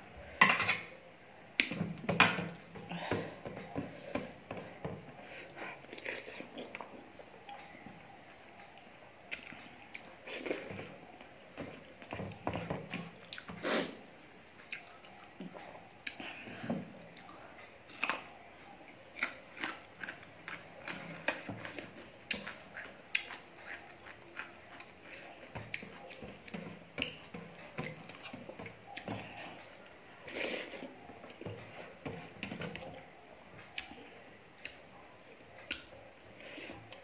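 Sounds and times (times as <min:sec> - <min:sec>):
person chewing with wet smacks: 0:02.5 - 0:13.6, 0:14.6 - 0:37.0.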